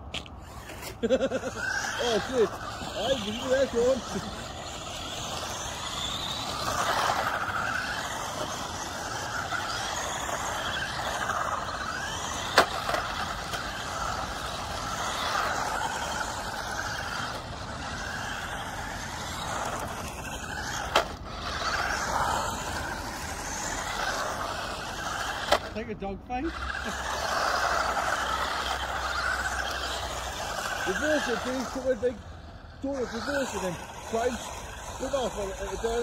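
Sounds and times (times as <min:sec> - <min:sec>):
rc car motors whining: 0:00.0 - 0:36.0
tyre and road noise hiss: 0:00.0 - 0:36.0.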